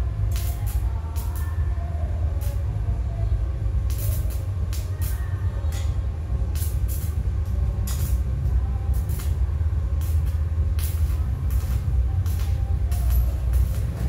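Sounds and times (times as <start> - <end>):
arc welding hiss and crackle: 0.0 - 14.0
steady low hum: 0.0 - 14.0.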